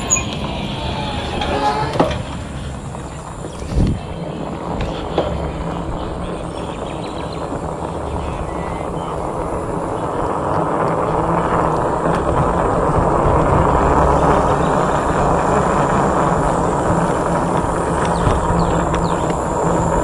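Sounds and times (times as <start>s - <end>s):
bike tyres on concrete: 0.0s - 20.0s
wind on microphone: 0.0s - 20.0s.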